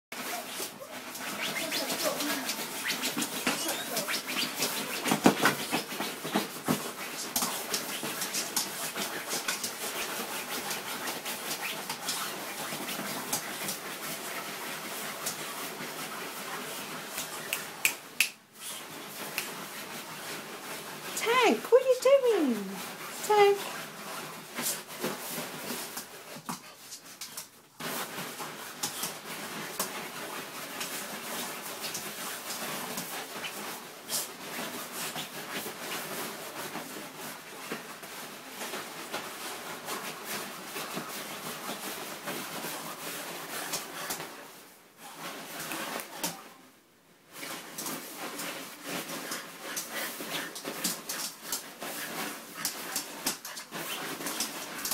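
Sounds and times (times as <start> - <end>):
puppy claws scratching nylon: 0.2 - 46.6, 47.3 - 54.9.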